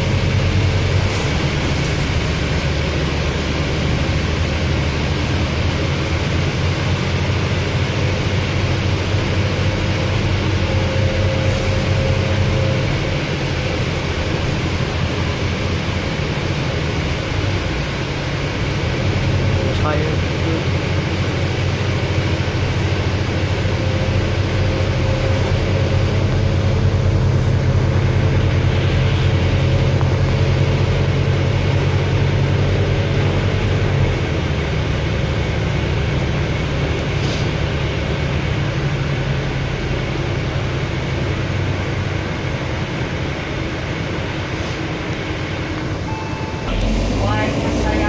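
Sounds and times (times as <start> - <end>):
bus diesel engine drone: 0.0 - 48.0
road noise: 0.0 - 48.0.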